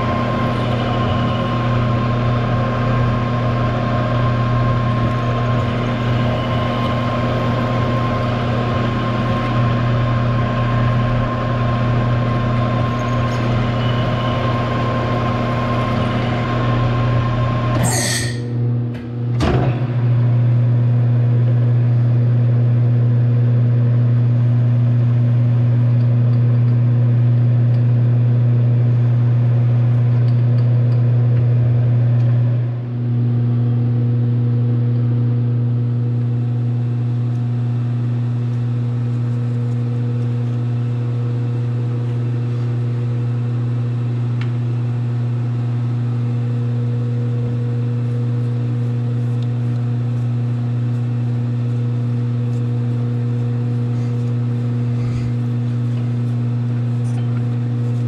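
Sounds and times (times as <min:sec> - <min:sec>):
metal lathe humming: 0:00.0 - 0:19.3, 0:28.9 - 0:58.0.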